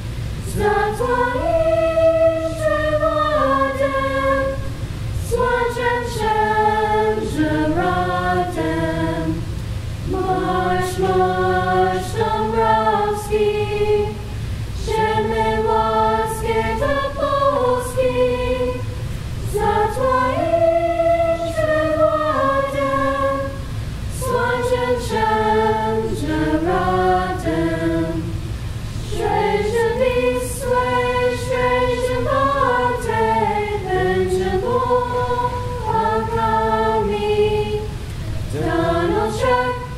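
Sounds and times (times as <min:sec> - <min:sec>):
choir singing unaccompanied: 0:00.0 - 0:39.9.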